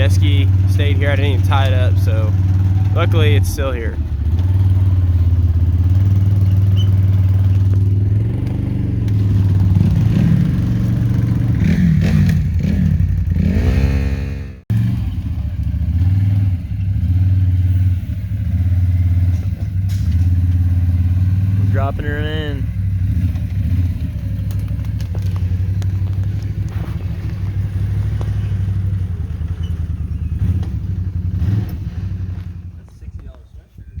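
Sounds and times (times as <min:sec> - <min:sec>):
vehicle engine running and revving: 0:00.0 - 0:33.4.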